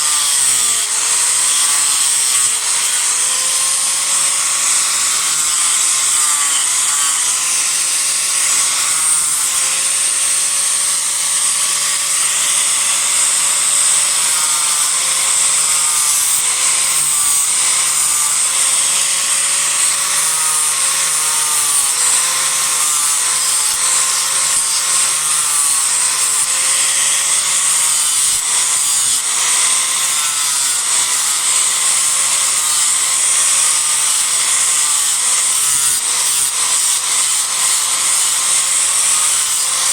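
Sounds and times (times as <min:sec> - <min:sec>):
disc grinder cutting wood: 0:00.0 - 0:39.9.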